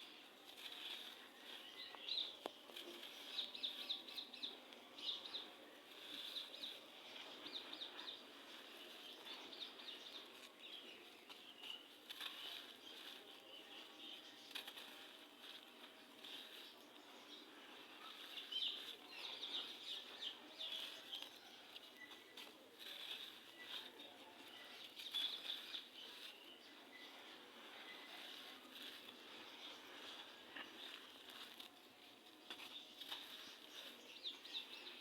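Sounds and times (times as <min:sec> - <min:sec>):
sand crumbling: 0:00.0 - 0:35.0.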